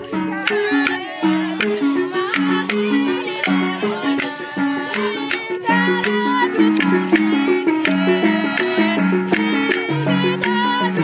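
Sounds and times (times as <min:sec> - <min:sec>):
women singing: 0:00.0 - 0:11.0.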